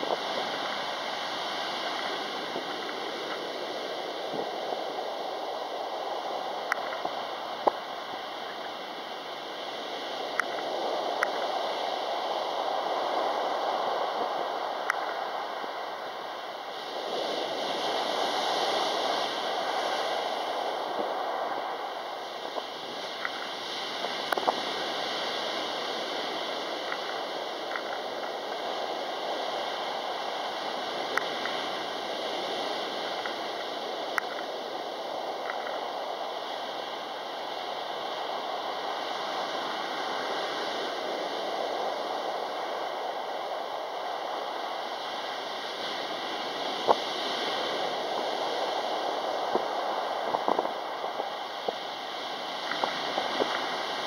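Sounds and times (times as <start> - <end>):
waves breaking on pebble beach: 0.0 - 54.0.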